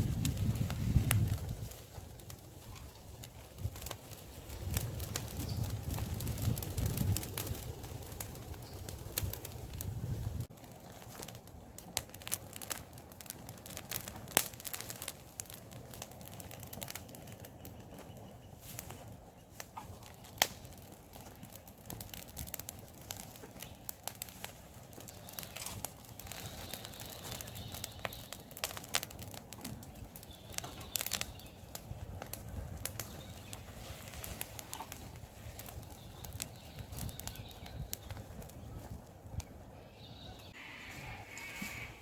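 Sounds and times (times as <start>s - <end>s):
sharp snaps and pops: 0.0s - 39.5s
campfire crackling: 0.0s - 42.0s.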